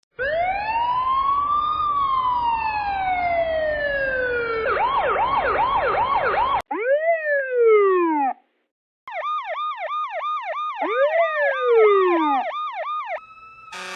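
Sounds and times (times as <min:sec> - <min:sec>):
siren wailing: 0:00.2 - 0:08.4, 0:09.1 - 0:13.9
siren yelping: 0:00.2 - 0:08.4, 0:09.1 - 0:13.9.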